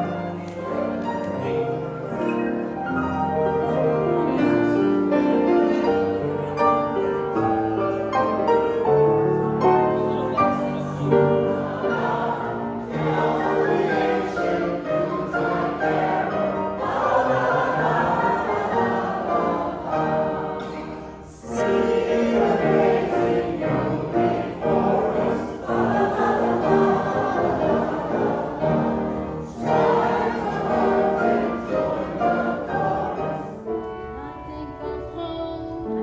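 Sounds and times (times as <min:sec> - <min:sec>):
choir singing: 0:00.0 - 0:35.1
piano accompaniment: 0:00.0 - 0:36.0.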